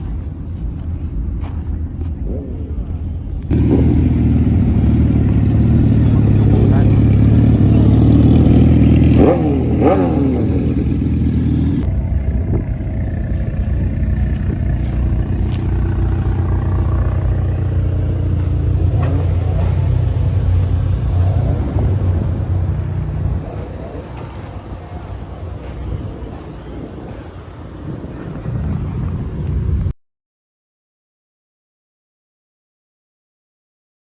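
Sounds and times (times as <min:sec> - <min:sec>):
car engine idling: 0:00.0 - 0:29.8
engine revving: 0:00.0 - 0:29.9.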